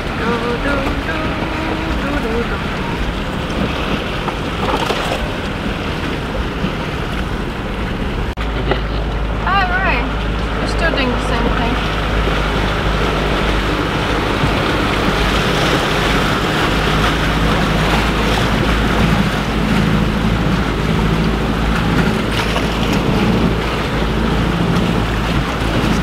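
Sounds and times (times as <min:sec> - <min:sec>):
off-road engine at low revs: 0:00.0 - 0:26.0
water splashing against vehicle: 0:00.0 - 0:26.0.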